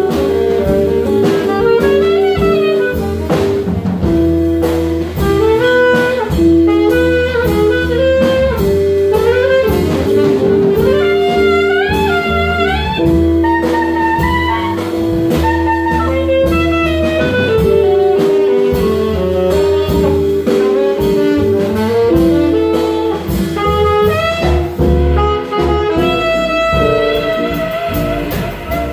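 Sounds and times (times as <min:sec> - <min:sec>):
archtop guitar: 0:00.0 - 0:28.9
drum set cymbal strokes: 0:00.0 - 0:28.9
long held backing notes: 0:00.0 - 0:28.9
saxophone solo: 0:00.0 - 0:28.9
walking upright bass: 0:00.0 - 0:28.9.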